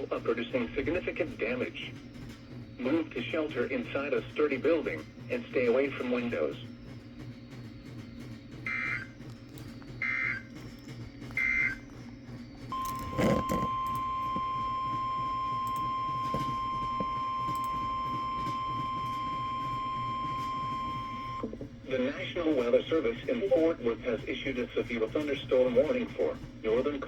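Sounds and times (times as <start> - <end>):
steady warning alarm tone: 0.0 - 27.0.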